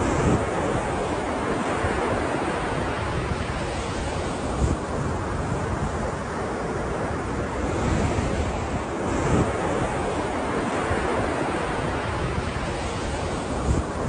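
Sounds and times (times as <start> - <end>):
waves breaking: 0.0 - 14.0
wind buffeting microphone: 0.0 - 14.0.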